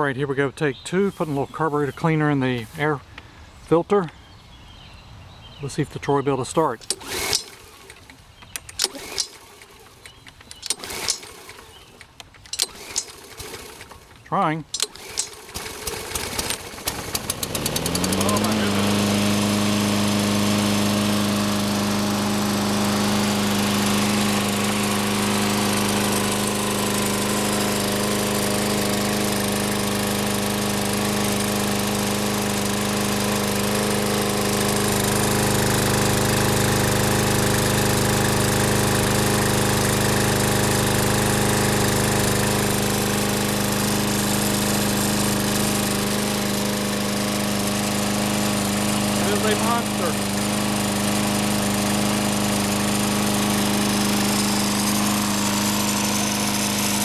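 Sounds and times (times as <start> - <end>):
lawn mower engine running: 0.9 - 3.0, 5.7 - 57.0.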